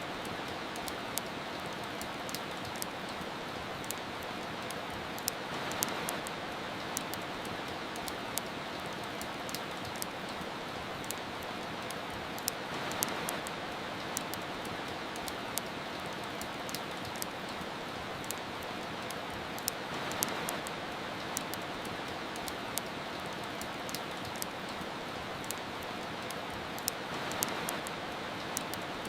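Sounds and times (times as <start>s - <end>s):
rain hiss: 0.0s - 29.0s
wood fire crackling: 0.0s - 29.0s.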